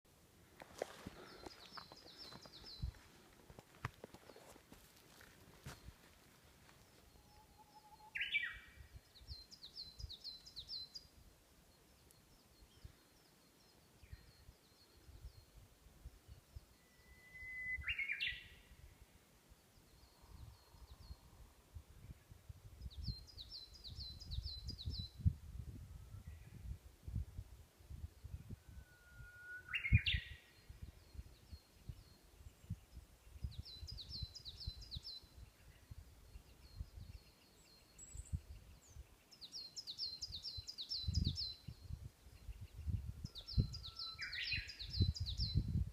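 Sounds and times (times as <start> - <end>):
songbirds singing: 0.8 - 3.3, 5.6 - 26.8, 28.0 - 45.9.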